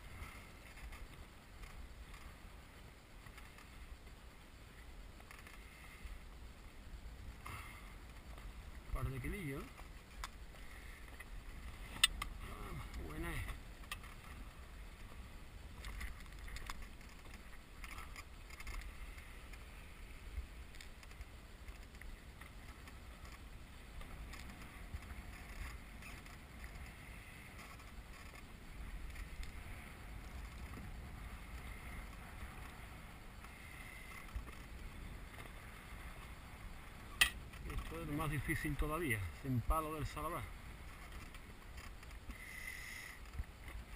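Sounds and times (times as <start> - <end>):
faint ticks: 0.0 - 43.9
wind rumbling on microphone: 0.0 - 43.9.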